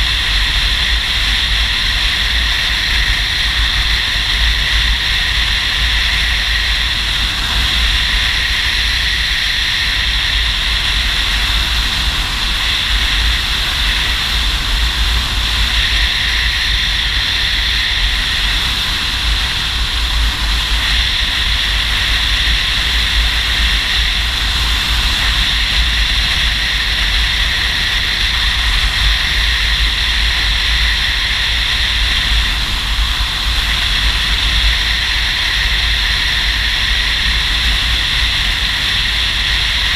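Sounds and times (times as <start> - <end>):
wind and road noise: 0.0 - 39.9
wind buffeting on microphone: 0.0 - 39.9.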